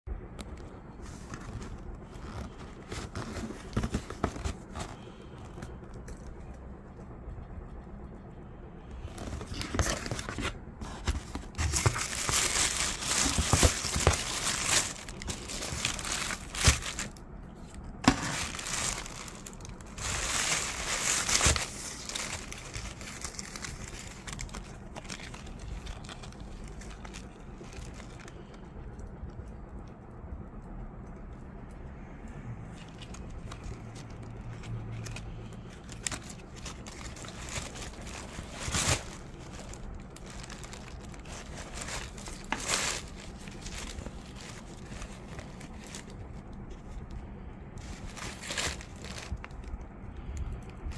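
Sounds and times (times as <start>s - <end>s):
tissue paper crinkling: 0.9s - 6.6s, 8.9s - 28.6s, 32.8s - 47.2s, 47.8s - 50.9s.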